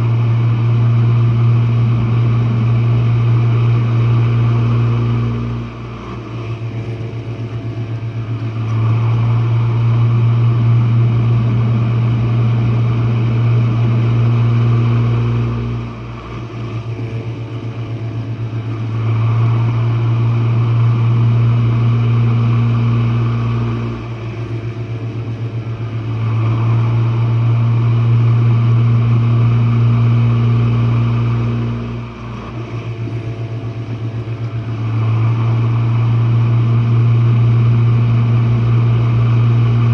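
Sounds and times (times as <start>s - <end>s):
dishwasher pump motor humming: 0.0s - 39.9s.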